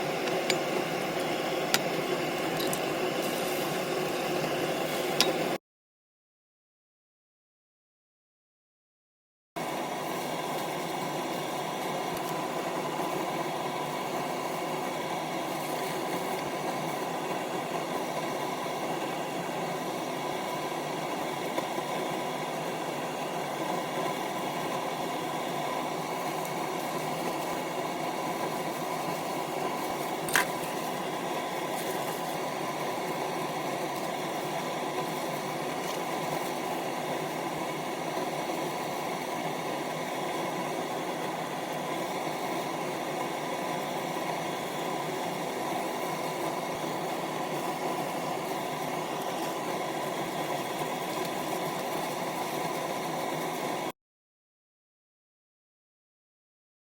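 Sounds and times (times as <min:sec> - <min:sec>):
mechanical hum: 0:00.0 - 0:05.6, 0:09.6 - 0:53.9.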